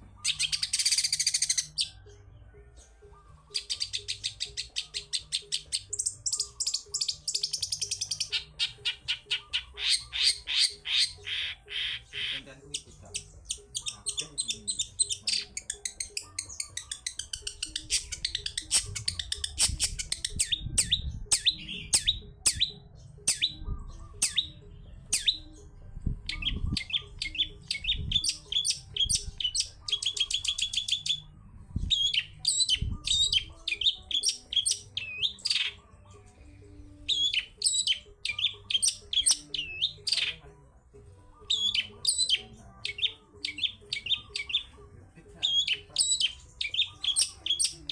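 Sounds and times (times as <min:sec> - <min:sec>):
bird chirping and trilling: 0:00.0 - 0:40.5, 0:41.2 - 0:47.9.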